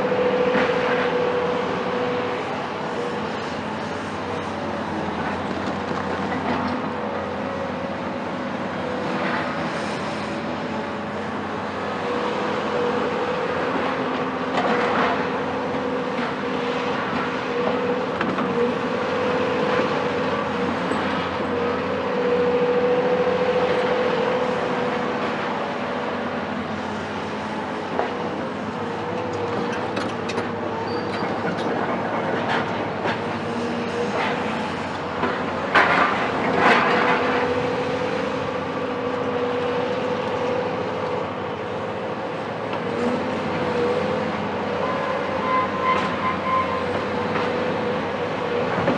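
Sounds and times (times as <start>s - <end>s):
excavator diesel engine whining: 0.0s - 48.9s.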